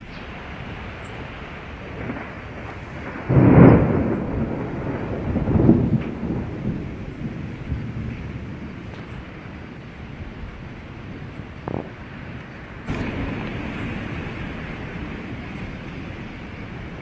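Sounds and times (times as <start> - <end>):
heavy rain: 0.0 - 17.0
thunder rumbling: 0.0 - 17.0.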